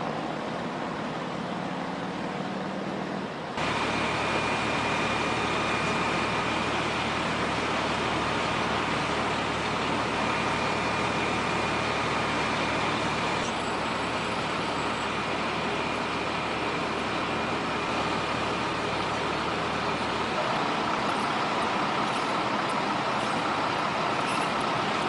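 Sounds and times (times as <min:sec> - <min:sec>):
fire engine pump running: 0:00.0 - 0:25.0
faint high whine: 0:03.6 - 0:25.0.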